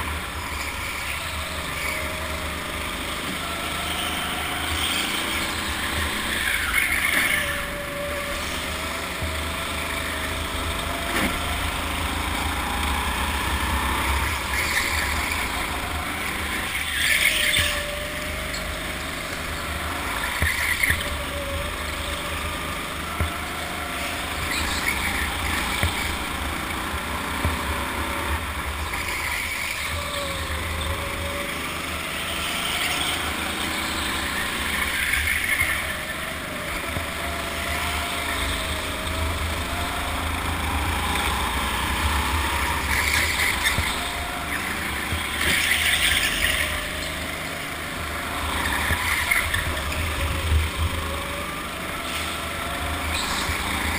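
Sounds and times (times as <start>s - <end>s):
go-kart motor drone: 0.0s - 53.9s
tyre squeals: 0.0s - 53.9s.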